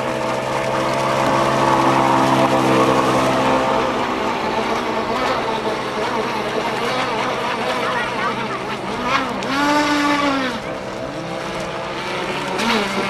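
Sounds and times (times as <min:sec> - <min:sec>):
model boat engine buzzing: 0:00.0 - 0:13.0.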